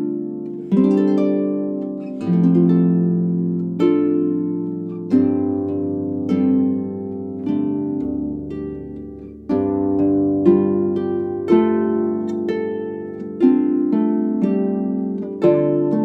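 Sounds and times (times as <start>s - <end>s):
plucked harp melody: 0.0s - 16.0s.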